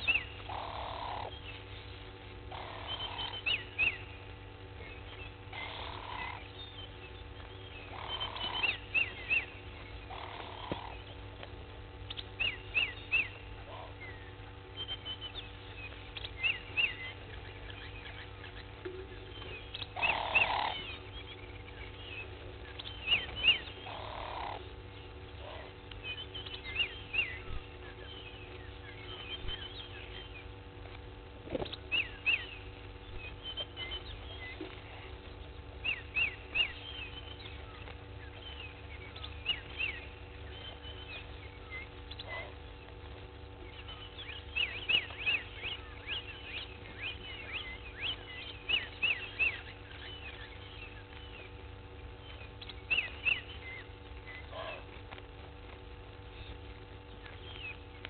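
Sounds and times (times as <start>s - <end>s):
birds chirping: 0.0s - 58.0s
faint steady hum: 0.0s - 58.0s
louder lower bird calls: 0.0s - 58.0s.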